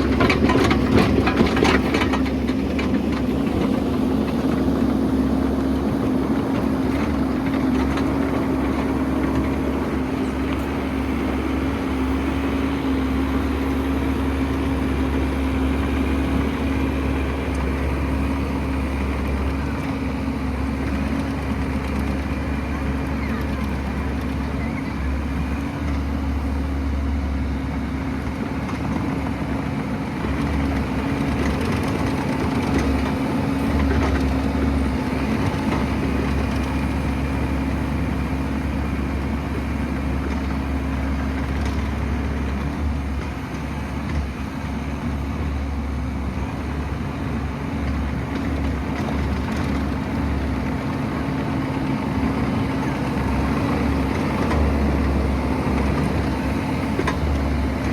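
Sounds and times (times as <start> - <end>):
diesel engine rumbling: 0.0 - 57.9.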